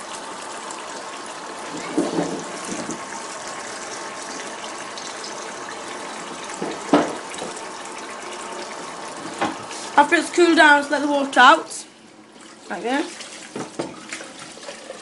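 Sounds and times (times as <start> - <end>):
tap water pouring into a saucepan: 0.0 - 10.3, 12.1 - 15.0.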